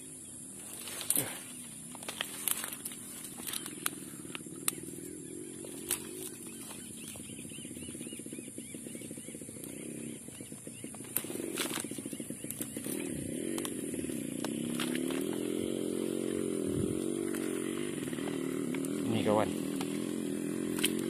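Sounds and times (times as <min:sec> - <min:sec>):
high insect buzz: 0:00.0 - 0:21.0
small engine running: 0:00.0 - 0:21.0.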